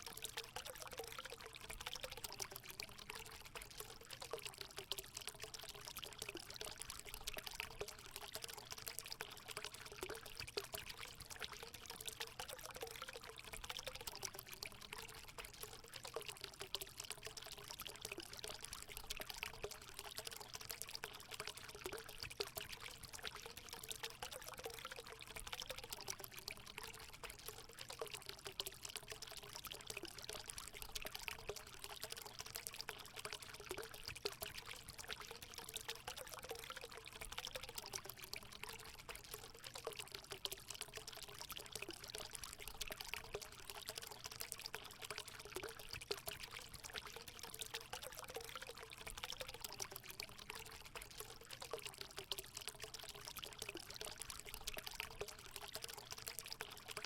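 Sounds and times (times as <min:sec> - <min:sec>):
water pouring into a pool: 0:00.0 - 0:57.0.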